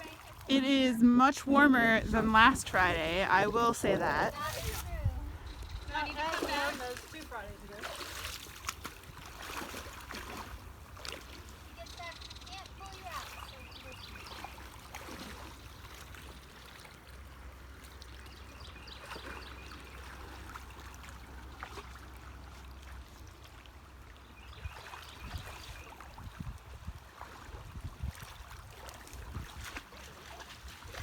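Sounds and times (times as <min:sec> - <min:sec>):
creek water trickling: 0:00.0 - 0:31.0.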